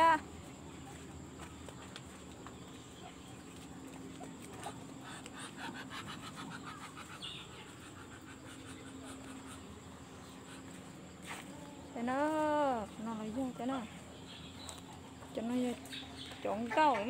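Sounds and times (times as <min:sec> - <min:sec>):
chickens clucking: 0:00.0 - 0:17.0
steady low hum: 0:00.0 - 0:17.0.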